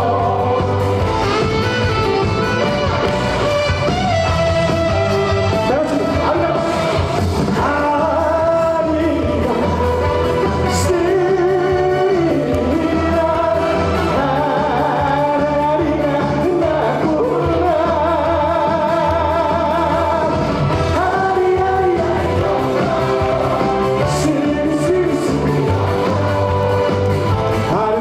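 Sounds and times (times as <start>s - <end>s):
band backing track: 0.0s - 28.0s
person singing pop song: 0.0s - 28.0s.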